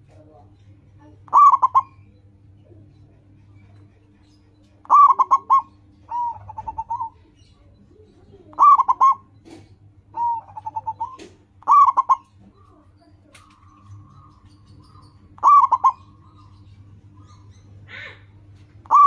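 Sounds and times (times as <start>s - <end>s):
dove cooing: 1.0s - 3.0s, 4.8s - 19.0s.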